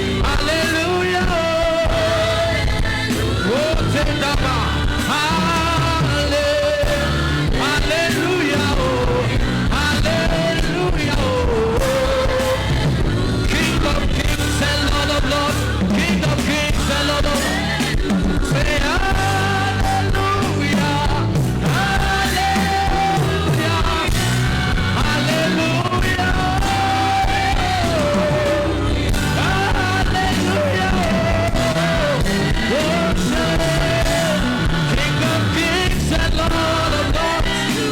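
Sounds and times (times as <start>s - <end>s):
bass: 0.0s - 37.9s
drums: 0.0s - 37.9s
sustained lead melody: 0.0s - 37.9s.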